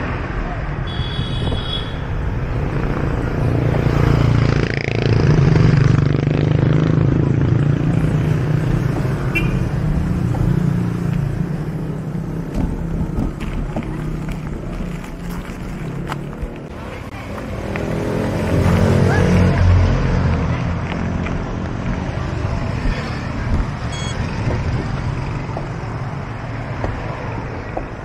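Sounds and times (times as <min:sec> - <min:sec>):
vehicles passing close by: 0:00.0 - 0:28.0.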